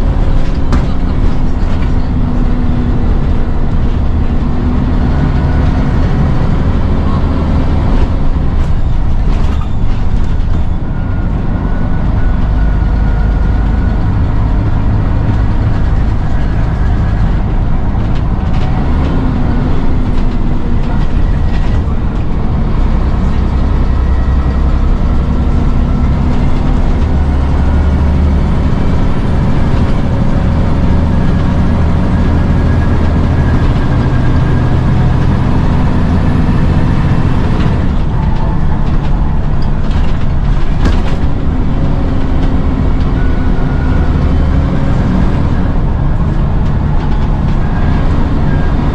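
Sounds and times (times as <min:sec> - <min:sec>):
diesel bus engine drone: 0:00.0 - 0:48.9.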